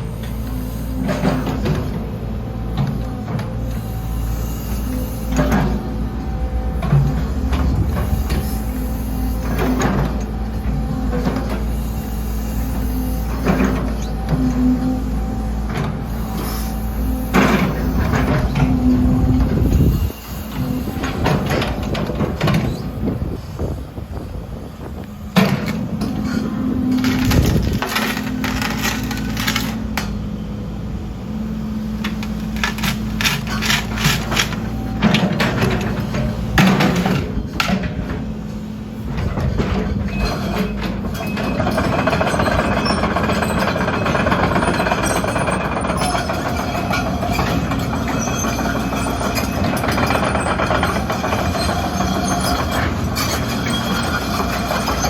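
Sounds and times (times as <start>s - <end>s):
excavator diesel engine droning: 0.0s - 55.0s
hydraulic whine: 0.0s - 55.0s
machine clanks and creaks: 0.2s - 8.8s, 9.4s - 11.8s, 12.4s - 14.9s, 15.6s - 23.7s, 25.3s - 30.2s, 32.0s - 38.3s, 39.0s - 55.0s.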